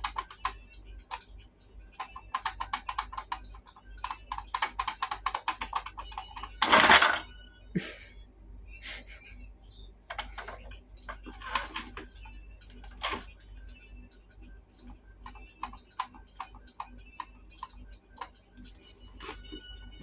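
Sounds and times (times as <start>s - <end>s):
toy mechanism ticking: 0.0s - 7.3s, 10.2s - 19.9s.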